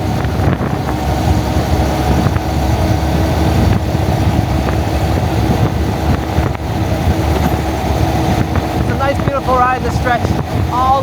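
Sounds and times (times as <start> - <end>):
motorbike engine cruising: 0.0 - 11.0
wind rumble on microphone: 0.0 - 11.0.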